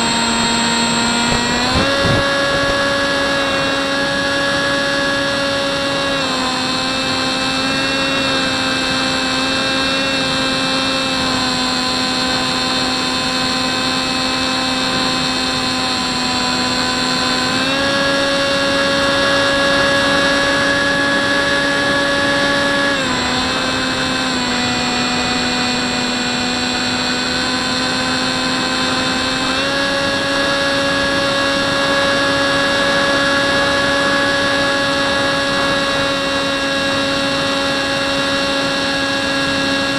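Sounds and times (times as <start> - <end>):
electric propeller motor whining: 0.0 - 39.9.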